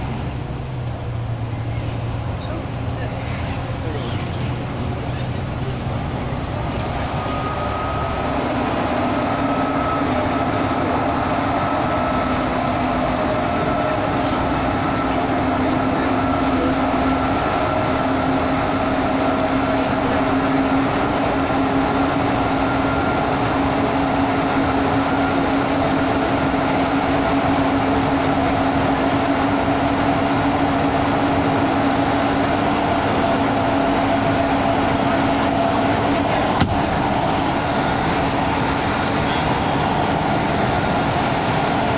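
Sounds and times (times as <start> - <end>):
bus engine and tyre rumble: 0.0 - 41.9.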